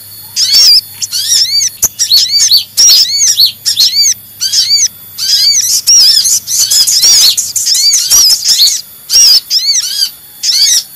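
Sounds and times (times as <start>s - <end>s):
sunbird chirping calls: 0.0s - 10.9s.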